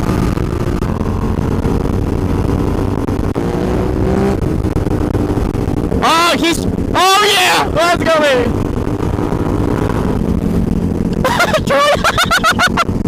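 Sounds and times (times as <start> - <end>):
wind rushing over microphone: 0.0 - 11.7
motorcycle engine running: 0.0 - 13.0.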